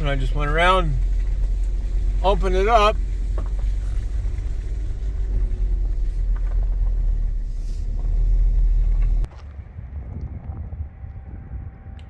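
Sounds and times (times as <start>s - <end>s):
vehicle engine low rumble: 0.0s - 12.0s.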